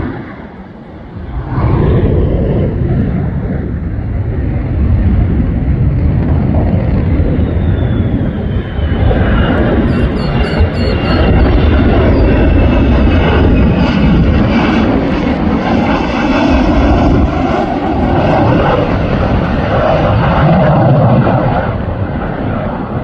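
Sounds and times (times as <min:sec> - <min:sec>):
fighter jet flying over: 0:00.0 - 0:23.0.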